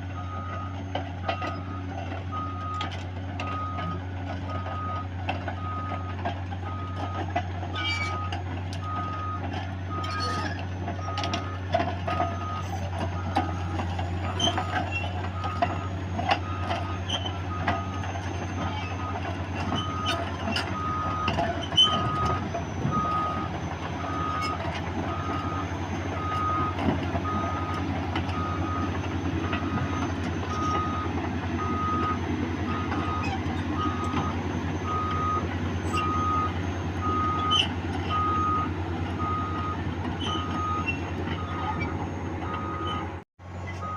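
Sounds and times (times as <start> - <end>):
diesel engine running: 0.0 - 43.9
reversing alarm beeping: 0.1 - 43.9.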